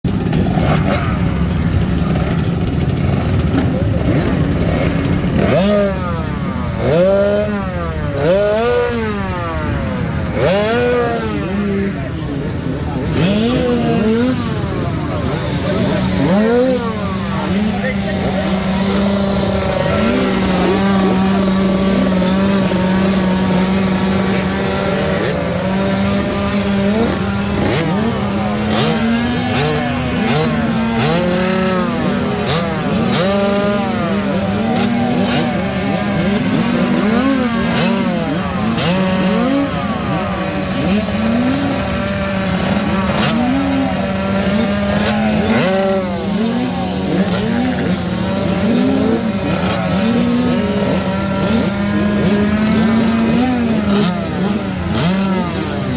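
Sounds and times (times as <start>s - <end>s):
motocross bikes revving: 0.0s - 55.9s.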